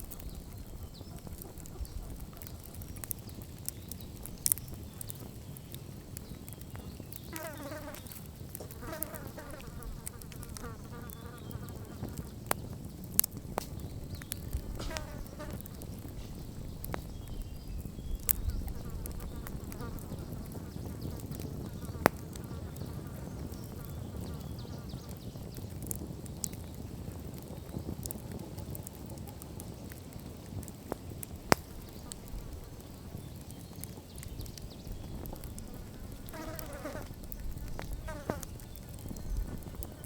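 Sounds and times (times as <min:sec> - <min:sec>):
campfire crackling: 0:00.0 - 0:40.0
sharp fire pops: 0:00.0 - 0:40.0.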